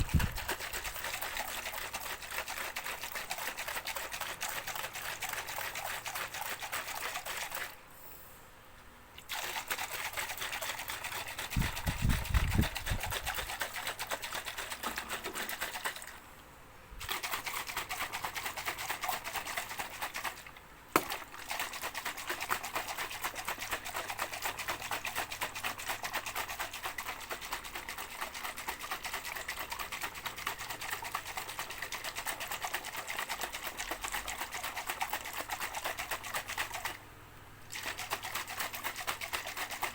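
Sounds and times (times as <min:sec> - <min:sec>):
shaker with water rattling: 0:00.0 - 0:07.8, 0:09.1 - 0:16.3, 0:17.0 - 0:37.0, 0:37.6 - 0:39.9.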